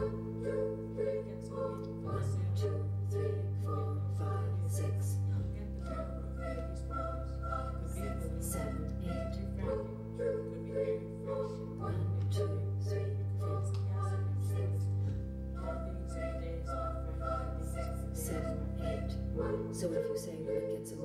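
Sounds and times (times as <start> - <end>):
low bass notes: 0.0 - 21.0
wavering sung melody: 0.0 - 21.0.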